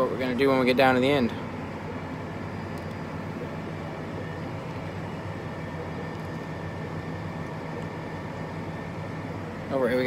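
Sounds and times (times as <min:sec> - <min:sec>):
tractor engine drone: 0:00.0 - 0:10.0.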